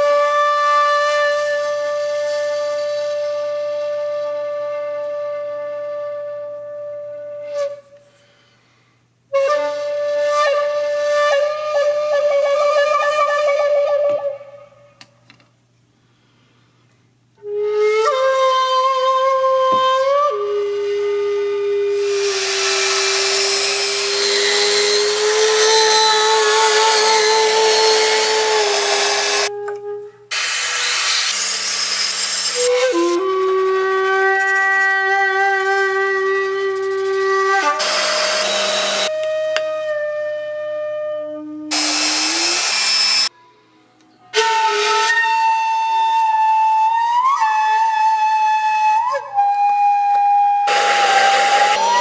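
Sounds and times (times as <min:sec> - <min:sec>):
slow flute melody: 0:00.0 - 0:08.6, 0:09.3 - 0:15.1, 0:17.3 - 0:52.0.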